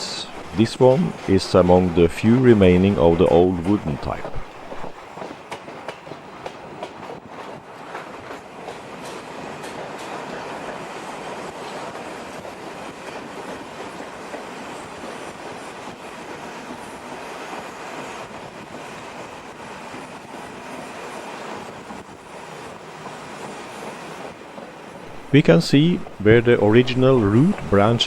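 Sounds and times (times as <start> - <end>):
train rolling rumble: 0.0 - 28.0.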